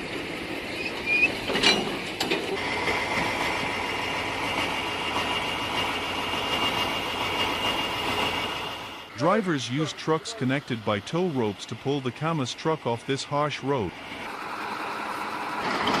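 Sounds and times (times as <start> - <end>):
heavy truck engines running: 0.0 - 16.0.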